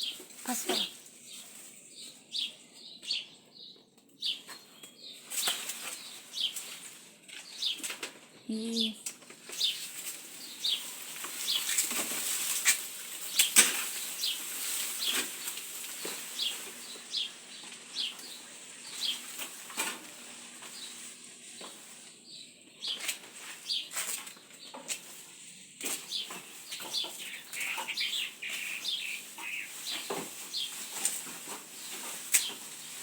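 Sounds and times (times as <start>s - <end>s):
birds chirping: 0.0s - 11.9s, 12.6s - 33.0s.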